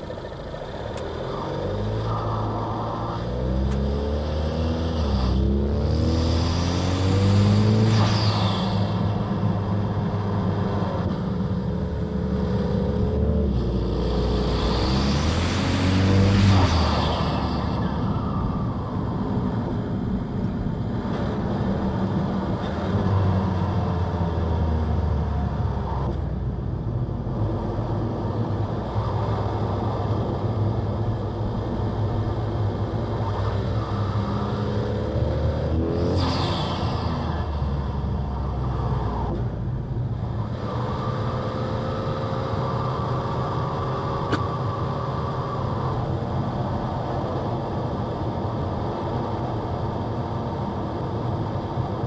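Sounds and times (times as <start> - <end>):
car engine droning: 0.0 - 52.0.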